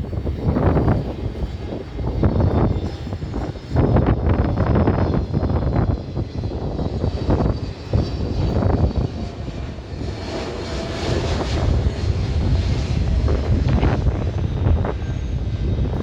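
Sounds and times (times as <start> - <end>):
jet airliner engine rumble: 0.0 - 16.0.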